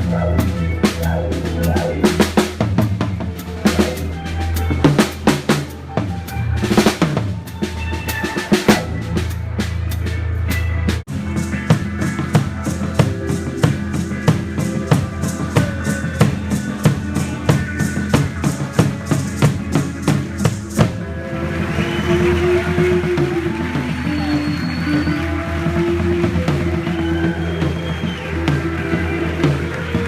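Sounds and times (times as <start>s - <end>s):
drum kit with band: 0.0s - 30.0s
low bass notes: 0.0s - 30.0s.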